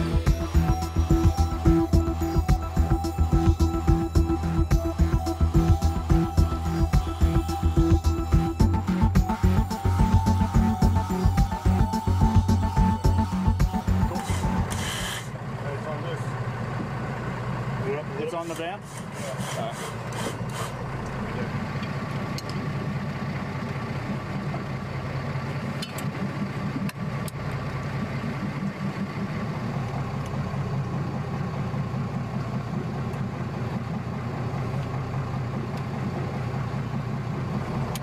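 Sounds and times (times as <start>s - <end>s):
boat engine idling: 0.0s - 38.0s.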